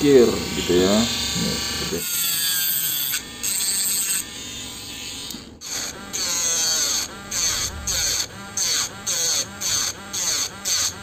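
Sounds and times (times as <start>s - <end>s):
rotary tool grinding metal: 0.0s - 11.0s.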